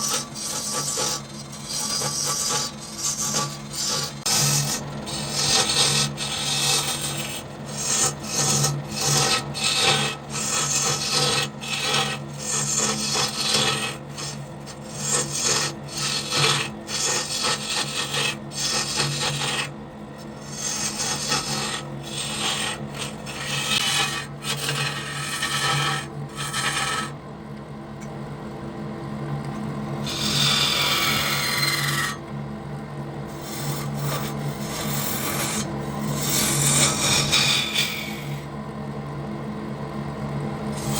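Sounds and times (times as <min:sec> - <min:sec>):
tool scraping spinning wood: 0:00.0 - 0:27.2, 0:30.0 - 0:32.3, 0:33.3 - 0:38.5, 0:40.7 - 0:40.9
lathe motor hum: 0:00.0 - 0:27.6, 0:28.6 - 0:40.9.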